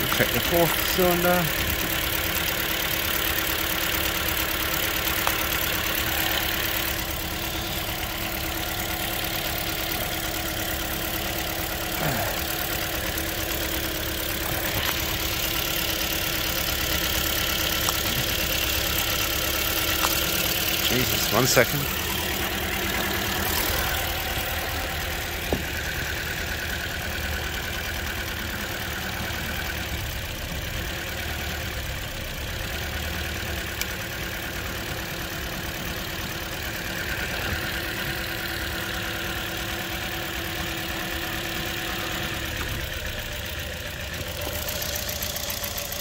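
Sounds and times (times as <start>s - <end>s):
car engine idling roughly: 0.0s - 46.0s.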